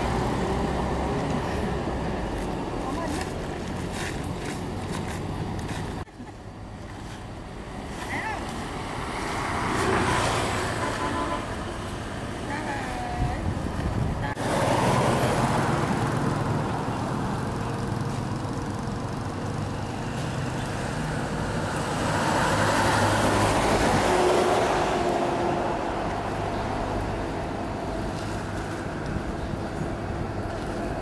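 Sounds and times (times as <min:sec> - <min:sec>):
vehicle engines running: 0:00.0 - 0:10.9, 0:11.5 - 0:31.0
vehicles passing: 0:00.0 - 0:31.0.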